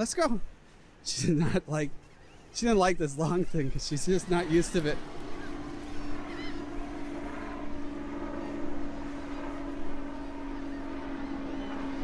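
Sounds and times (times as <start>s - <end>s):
helicopter droning: 0.0s - 12.0s.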